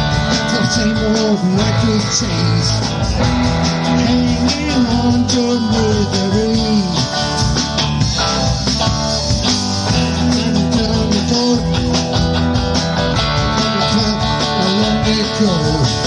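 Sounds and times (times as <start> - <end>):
instrumental rock music: 0.0 - 16.0
lead guitar: 0.0 - 16.0.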